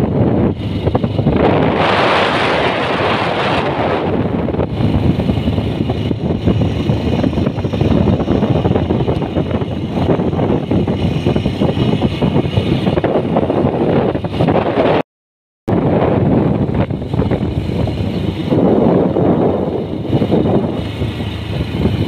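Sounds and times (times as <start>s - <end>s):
motorcycle engine running: 0.0s - 15.0s, 15.8s - 22.0s
wind noise on microphone: 0.0s - 15.0s, 15.7s - 22.0s.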